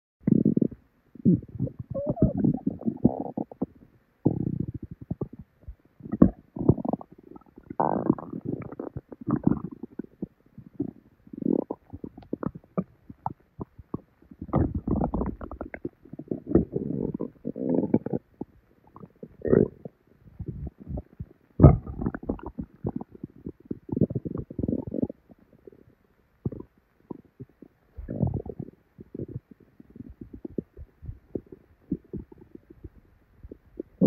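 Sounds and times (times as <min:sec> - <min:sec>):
stomach gurgling: 0:00.2 - 0:34.0.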